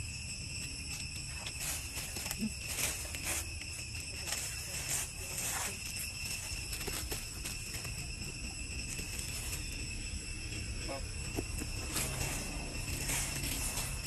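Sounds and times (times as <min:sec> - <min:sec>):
high-pitched ringing drone: 0:00.0 - 0:14.0.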